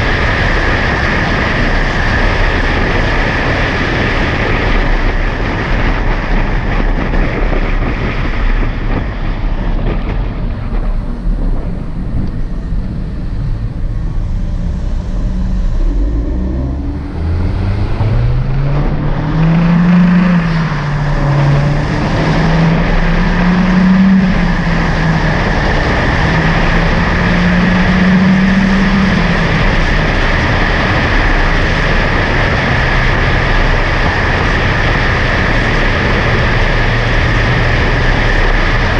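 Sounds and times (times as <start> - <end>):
car engine and exhaust: 0.0 - 38.9
road rush: 0.0 - 38.9
wind noise: 0.0 - 38.9.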